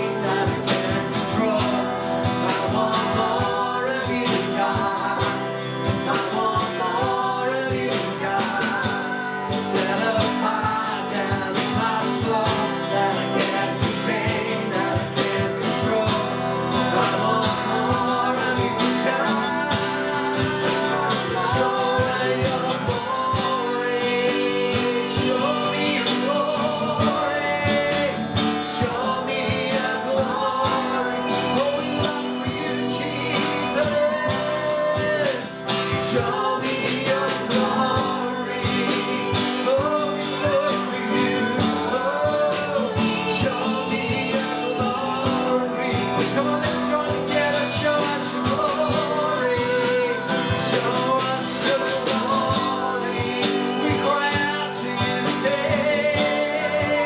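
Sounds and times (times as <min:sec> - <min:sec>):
person singing: 0:00.0 - 0:57.0
strummed guitar: 0:00.0 - 0:57.0.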